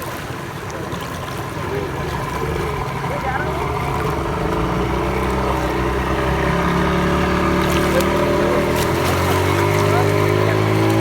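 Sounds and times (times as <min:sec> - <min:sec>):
motorboat engine running: 0:00.0 - 0:11.0.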